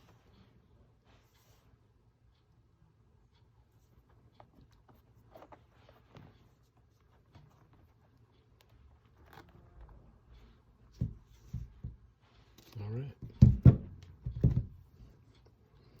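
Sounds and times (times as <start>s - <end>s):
faint clicks and rustles: 0.0s - 16.0s.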